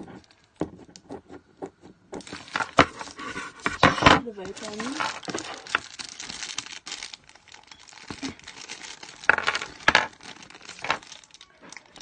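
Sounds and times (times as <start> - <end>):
plastic wrapping crinkling: 2.2 - 12.0.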